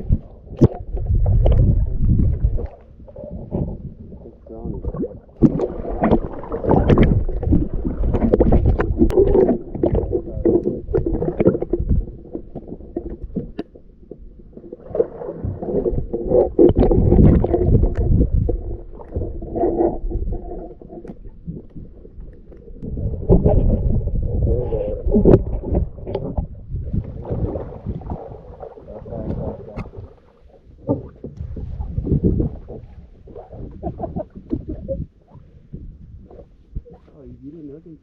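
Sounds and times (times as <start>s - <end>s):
water rumbling against kayak hull: 0.0s - 38.0s.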